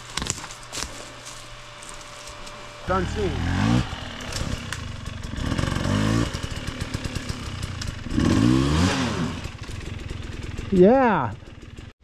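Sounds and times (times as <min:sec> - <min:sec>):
dirt bike engines revving: 0:00.0 - 0:11.9.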